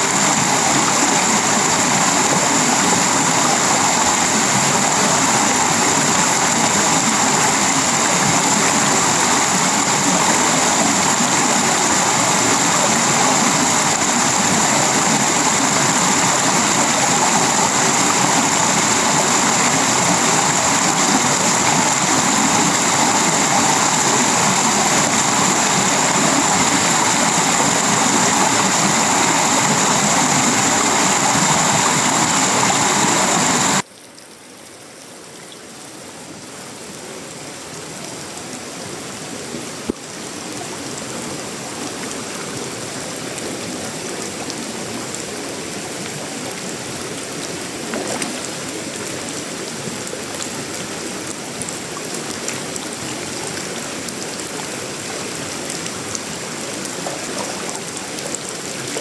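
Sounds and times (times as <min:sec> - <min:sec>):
rain on a metal roof: 0:00.0 - 0:34.4, 0:36.5 - 0:59.0.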